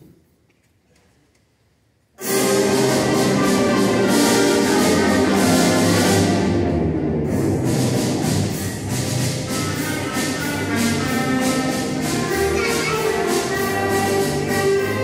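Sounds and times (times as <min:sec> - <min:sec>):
symphonic band playing: 0:02.2 - 0:15.0.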